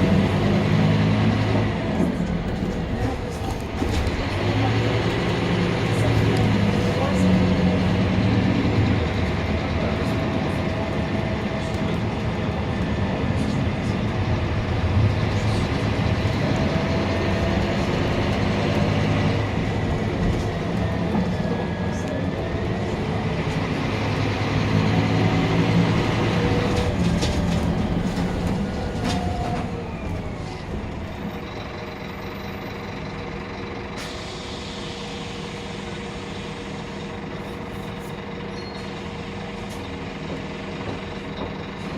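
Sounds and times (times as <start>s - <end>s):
city bus engine running: 0.0s - 41.9s.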